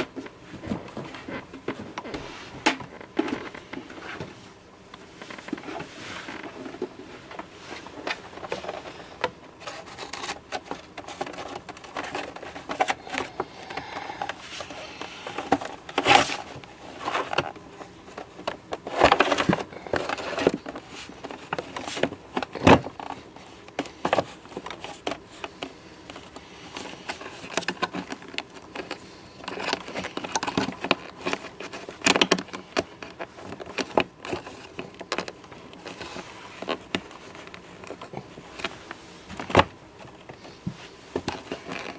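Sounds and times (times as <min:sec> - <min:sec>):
plastic parts clicking and scraping: 0:00.0 - 0:41.9.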